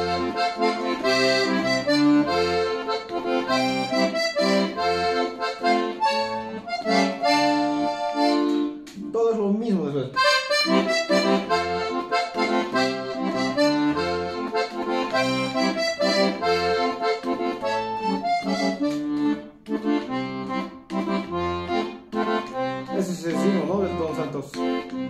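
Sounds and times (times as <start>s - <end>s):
piano accordion playing folk tune: 0.0s - 9.0s, 10.2s - 25.0s.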